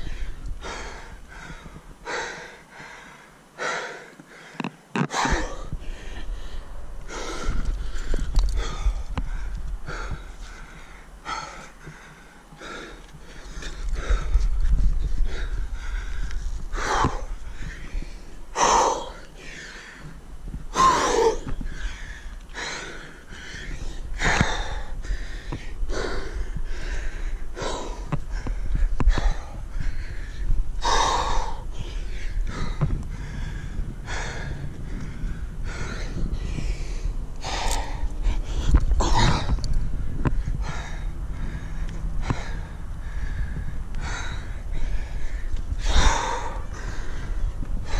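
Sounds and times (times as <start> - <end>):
person breathing hard: 0.0 - 47.9.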